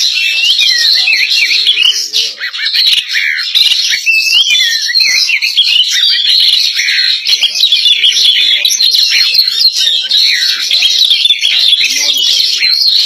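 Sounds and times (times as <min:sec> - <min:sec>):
bird singing whistled notes: 0:00.0 - 0:13.0.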